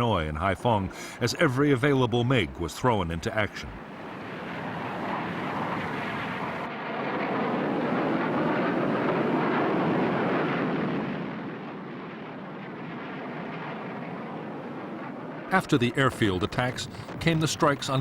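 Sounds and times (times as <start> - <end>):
jet plane passing over: 0.0 - 18.0.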